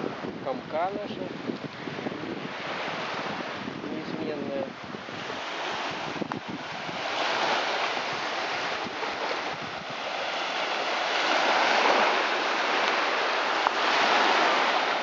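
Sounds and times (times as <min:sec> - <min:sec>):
small surf washing onto sandy shore: 0:00.0 - 0:15.0.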